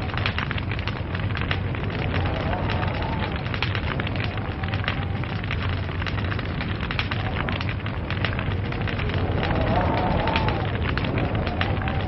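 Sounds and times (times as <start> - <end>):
fire crackling and popping: 0.0 - 12.0
steady rushing noise: 0.0 - 12.0.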